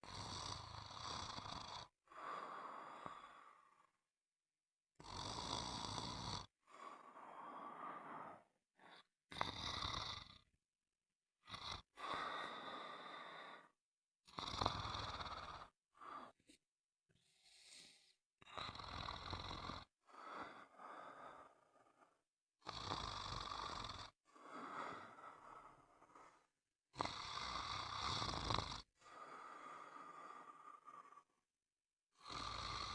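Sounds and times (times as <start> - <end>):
snoring: 0.0 - 4.0, 5.0 - 10.6, 11.4 - 16.4, 17.5 - 31.5, 32.1 - 32.9.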